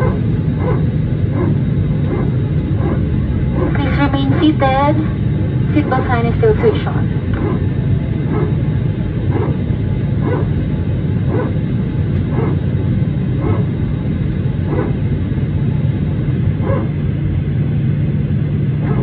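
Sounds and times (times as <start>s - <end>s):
low cabin rumble: 0.0s - 19.0s.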